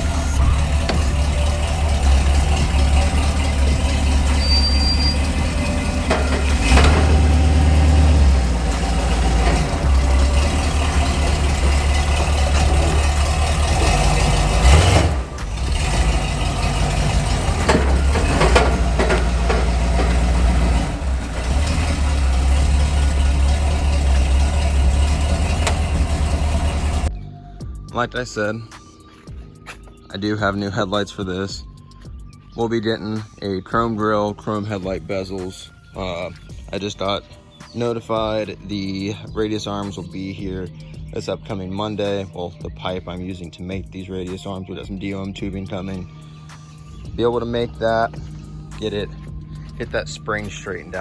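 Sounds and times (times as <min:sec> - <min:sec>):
truck engine droning: 0:00.0 - 0:27.2, 0:30.2 - 0:51.0.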